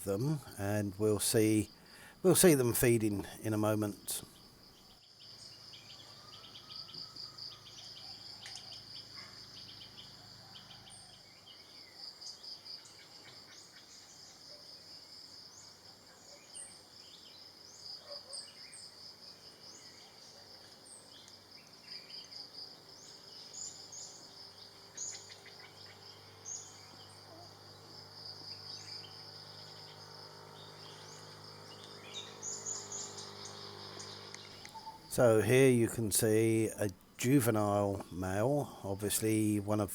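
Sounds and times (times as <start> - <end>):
pulsing insect chorus: 0.0 - 36.8.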